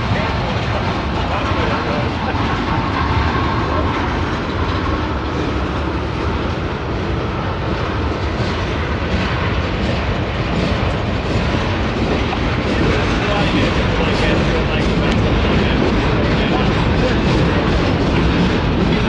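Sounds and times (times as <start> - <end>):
steel wheels running on rails: 0.0 - 19.0.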